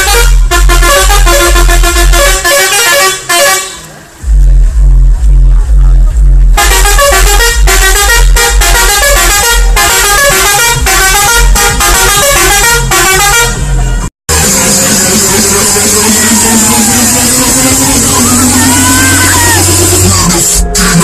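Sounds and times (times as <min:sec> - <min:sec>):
music with heavy bass beats: 0:00.0 - 0:02.5, 0:04.2 - 0:21.0
high horn-like melody: 0:00.0 - 0:03.9, 0:06.6 - 0:19.6.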